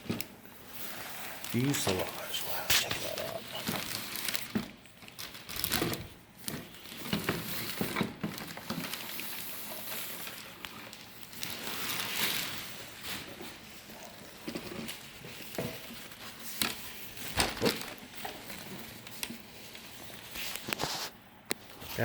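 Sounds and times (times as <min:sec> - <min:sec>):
plastic wrapping crinkling: 0:00.0 - 0:22.0.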